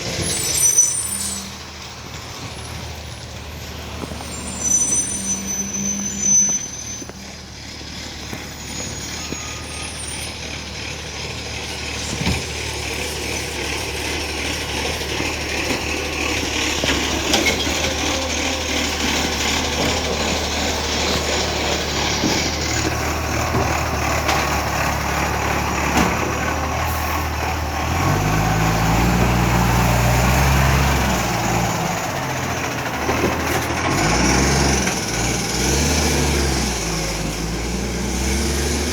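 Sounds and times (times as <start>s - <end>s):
garbage truck engine revving: 0.0s - 38.9s.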